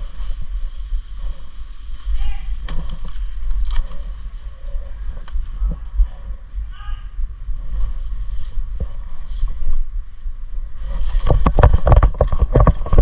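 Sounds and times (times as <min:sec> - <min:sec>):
low rumble of wind: 0:00.0 - 0:13.0.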